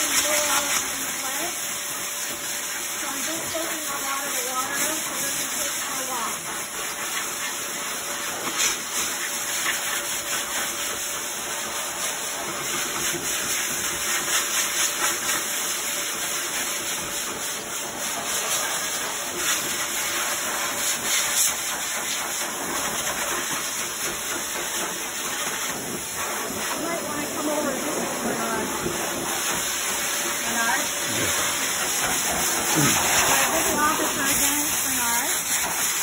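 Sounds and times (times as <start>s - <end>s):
force dryer blowing air: 0.0s - 36.0s.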